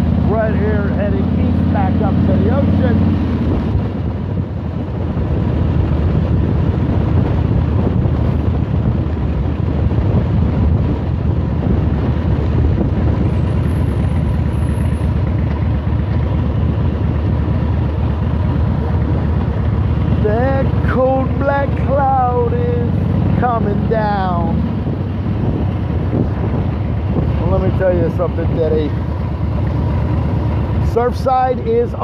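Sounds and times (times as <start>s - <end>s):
motorcycle engine rumble: 0.0s - 32.0s
wind on microphone: 2.8s - 31.1s.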